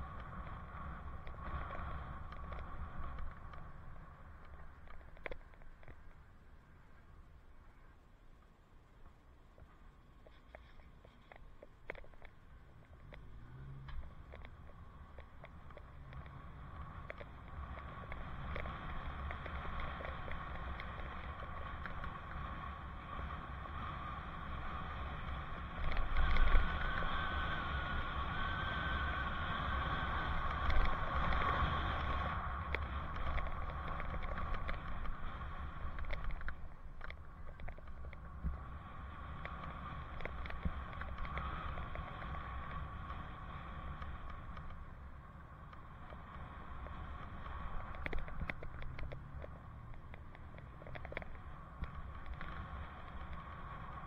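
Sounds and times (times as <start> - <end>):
bicycle road noise: 0.0 - 54.0.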